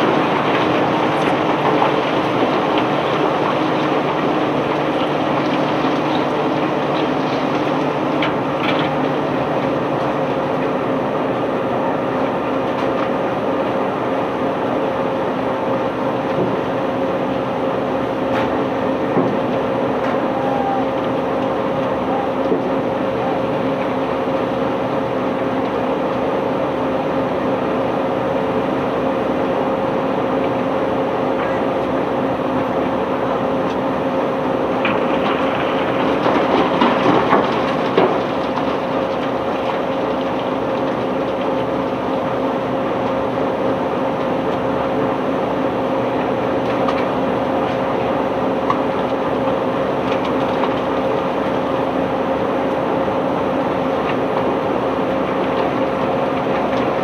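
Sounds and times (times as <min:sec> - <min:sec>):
heavy machinery humming: 0:00.0 - 0:57.0.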